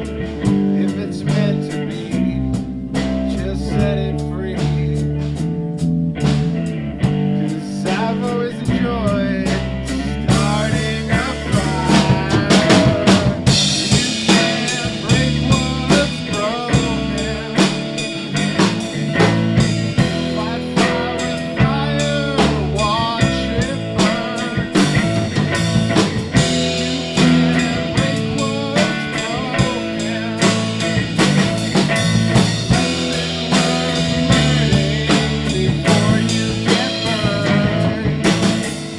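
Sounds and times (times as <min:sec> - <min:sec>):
bending lead guitar notes: 0:00.0 - 0:38.9
drum kit steady beat: 0:00.0 - 0:38.9
guitar: 0:00.0 - 0:38.9
low bass notes: 0:00.0 - 0:38.9.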